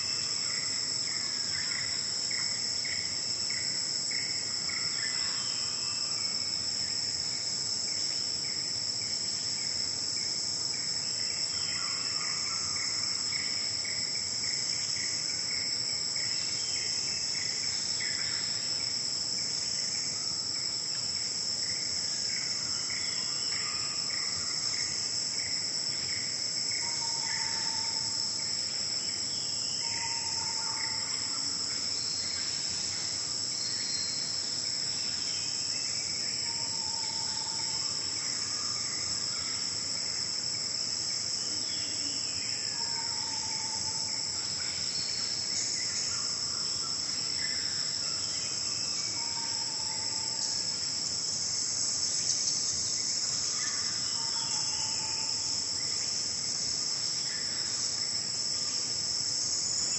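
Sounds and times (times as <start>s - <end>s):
faint pulsing insect chirr: 0.0s - 59.9s
high-pitched insect drone: 7.9s - 59.9s.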